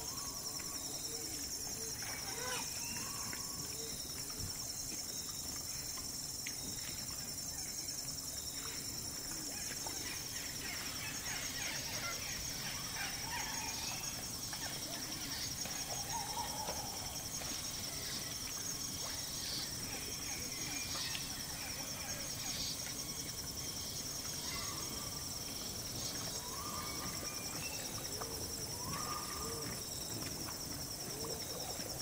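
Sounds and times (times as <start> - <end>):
insects chorus: 0.0 - 32.0
animals chewing in wet mud: 0.3 - 10.6, 11.9 - 32.0.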